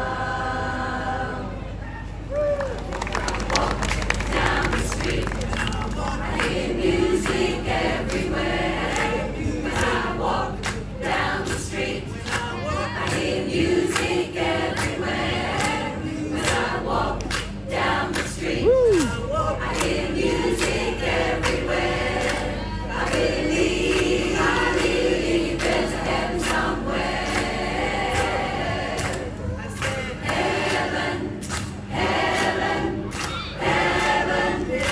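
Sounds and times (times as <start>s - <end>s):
choir singing in harmony: 0.0s - 1.8s, 3.1s - 34.9s.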